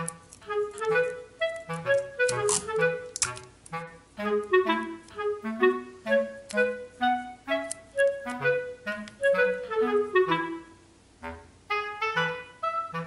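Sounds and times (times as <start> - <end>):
bouncy background music: 0.0 - 13.0.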